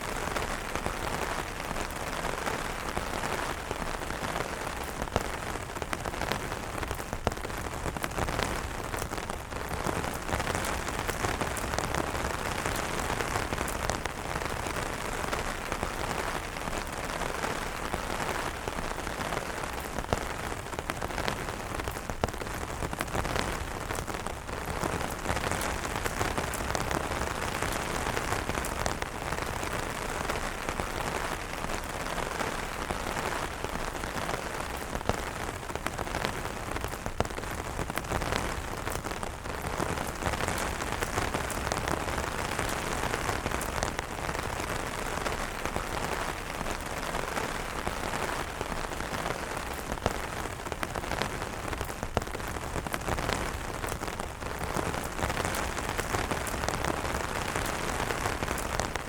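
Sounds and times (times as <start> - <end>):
rain falling on umbrellas: 0.0 - 59.0.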